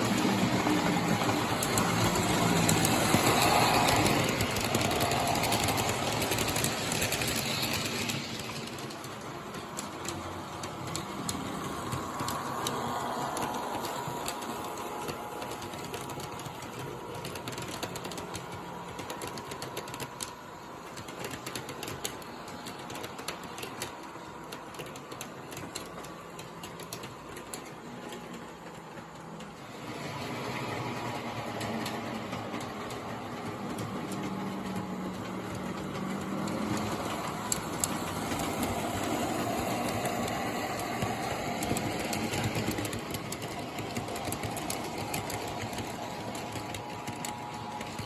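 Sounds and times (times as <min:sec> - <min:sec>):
electric motor whir of toy train: 0:00.0 - 0:48.0
wheels clicking over rail joints: 0:00.0 - 0:48.0.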